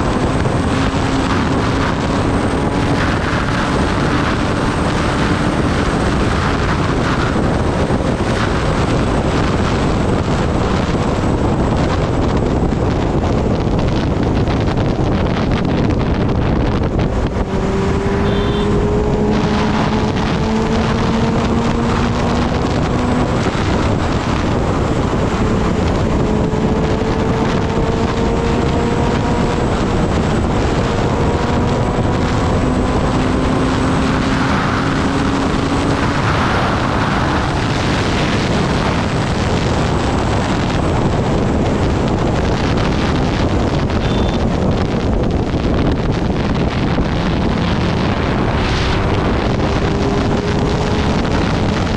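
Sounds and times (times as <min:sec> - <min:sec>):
motorcycle engine at speed: 0:00.0 - 0:51.9
wind rush on microphone: 0:00.0 - 0:51.9.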